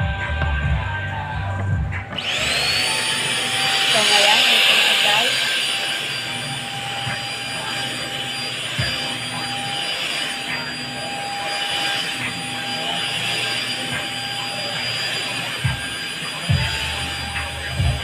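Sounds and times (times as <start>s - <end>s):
handheld vacuum cleaner running: 1.9s - 18.0s.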